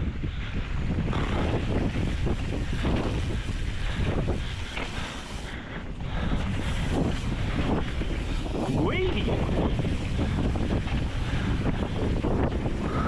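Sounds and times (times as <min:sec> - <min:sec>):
bike rattling over bumps: 0:00.0 - 0:13.0
bike tyres rushing on dirt: 0:00.0 - 0:13.0
wind buffeting microphone: 0:00.0 - 0:13.0.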